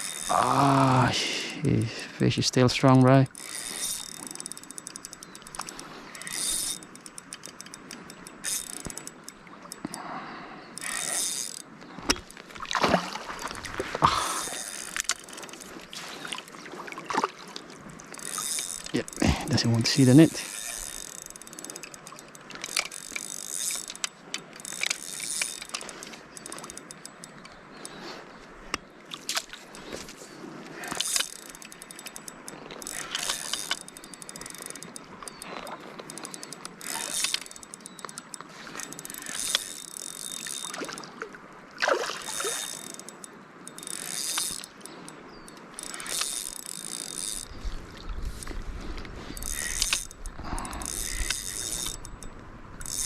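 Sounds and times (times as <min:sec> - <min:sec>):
fishing reel ratcheting and whirring: 0:00.0 - 0:12.6, 0:13.3 - 0:16.7, 0:17.6 - 0:41.2, 0:41.8 - 0:53.0.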